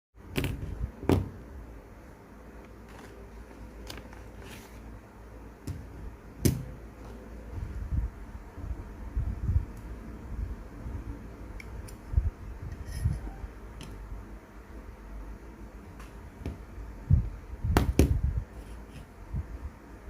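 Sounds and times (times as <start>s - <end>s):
low steady hum: 0.2s - 20.0s.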